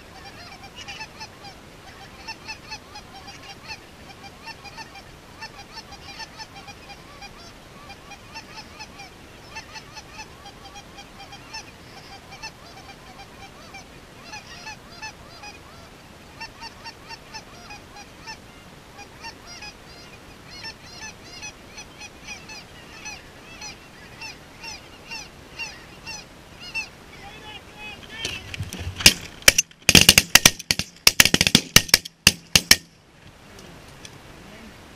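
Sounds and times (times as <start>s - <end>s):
geese honking: 0.0s - 28.6s.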